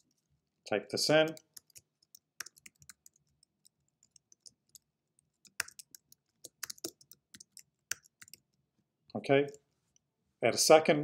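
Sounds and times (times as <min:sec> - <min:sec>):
faint typing on a keyboard: 0:00.0 - 0:10.1.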